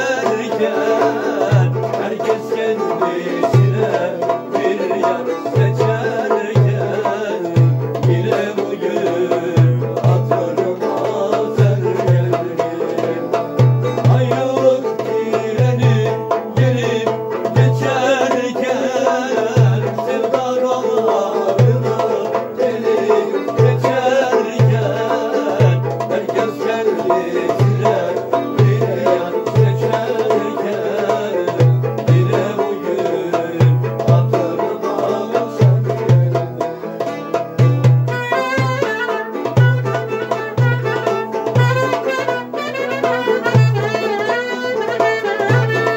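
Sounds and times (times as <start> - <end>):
long-necked lute folk music: 0.0 - 45.9.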